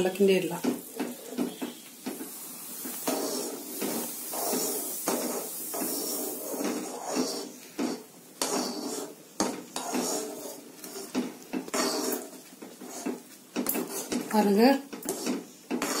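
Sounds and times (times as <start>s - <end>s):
metal spoon scraping metal pot: 3.0s - 16.0s.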